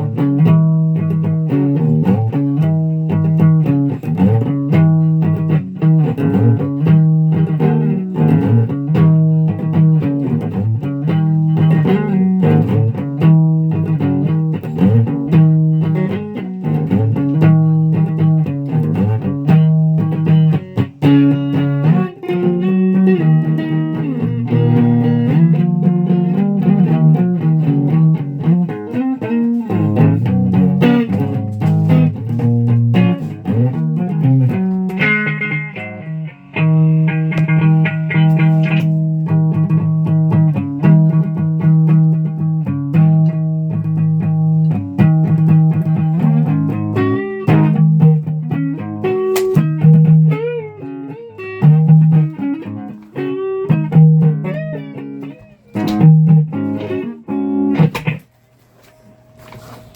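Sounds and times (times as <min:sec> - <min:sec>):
guitar riff: 0:00.0 - 0:59.9.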